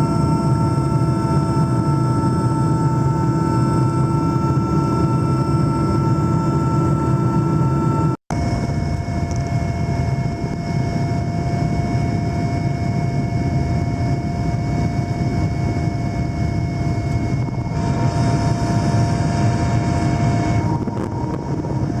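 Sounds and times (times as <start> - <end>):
helicopter engines and rotor: 0.0 - 22.0.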